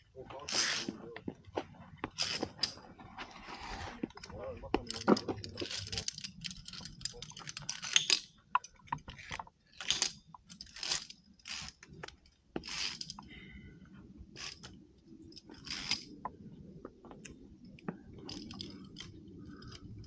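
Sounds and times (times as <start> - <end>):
climbing gear clicks and scrapes: 2.0 - 13.4, 14.3 - 16.3, 17.1 - 20.0.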